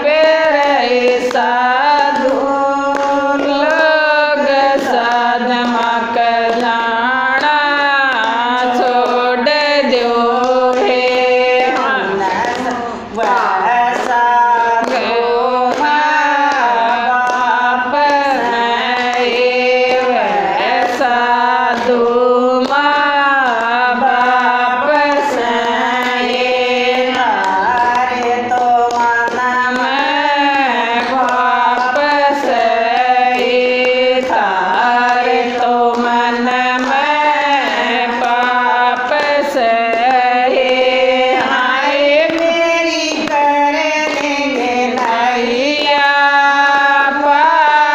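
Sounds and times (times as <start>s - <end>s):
hand claps: 0.0s - 47.9s
women singing: 0.0s - 47.9s.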